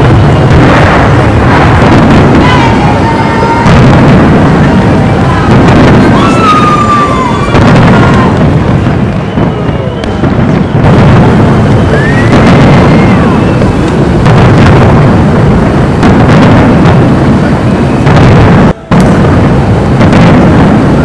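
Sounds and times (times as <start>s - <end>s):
fireworks bangs and booms: 0.0s - 21.0s
whistling fireworks: 0.0s - 21.0s.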